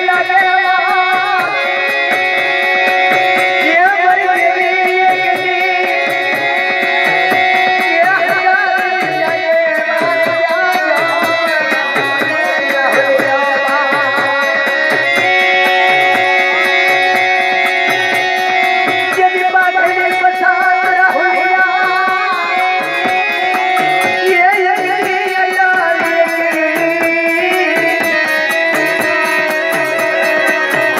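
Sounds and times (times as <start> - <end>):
folk music with drone and drum: 0.0 - 30.9
steady drum beat: 0.0 - 30.9.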